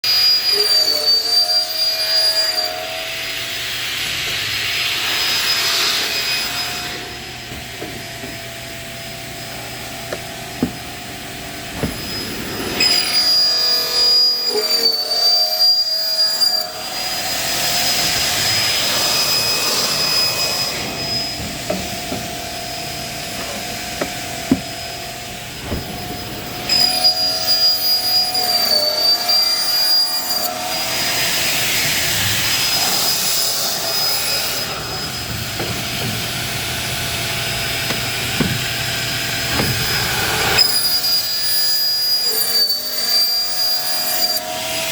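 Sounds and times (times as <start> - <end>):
pipe cutting saw whining: 0.0 - 44.9.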